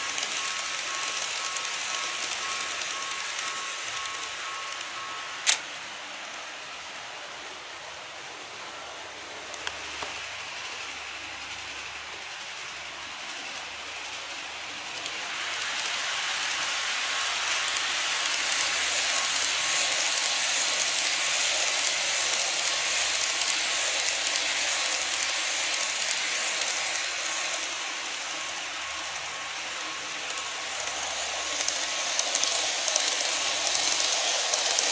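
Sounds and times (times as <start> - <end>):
model train running on track: 0.0 - 34.9.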